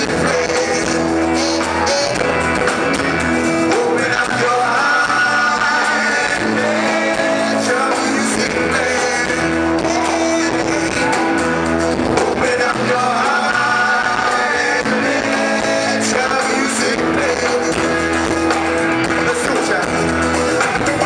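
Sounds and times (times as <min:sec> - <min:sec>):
drums: 0:00.0 - 0:21.0
electric bass: 0:00.0 - 0:21.0
man singing: 0:00.0 - 0:21.0.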